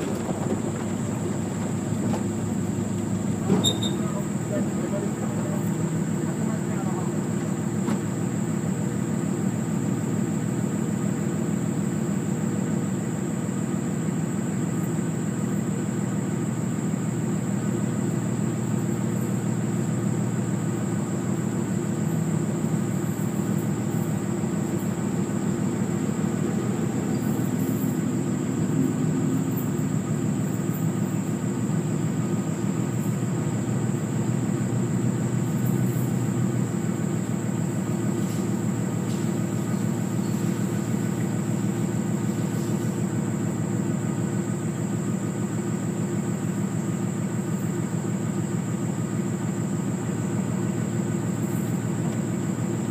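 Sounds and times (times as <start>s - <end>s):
vehicle engine drone: 0.0s - 52.9s.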